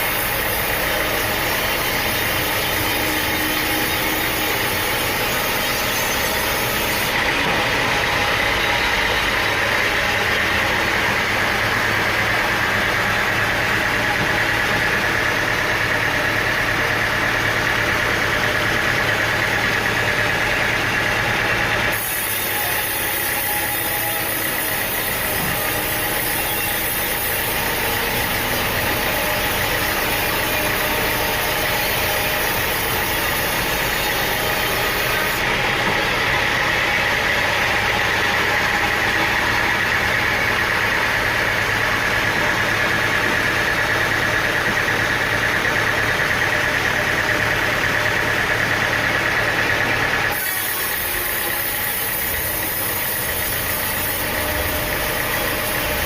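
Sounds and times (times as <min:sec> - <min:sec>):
high saw whine: 0:00.0 - 0:56.0
sawmill engine noise: 0:00.0 - 0:56.0.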